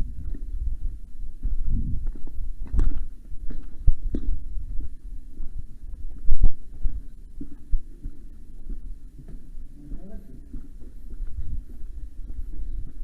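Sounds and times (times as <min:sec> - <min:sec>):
footsteps thumping: 0:00.1 - 0:13.0.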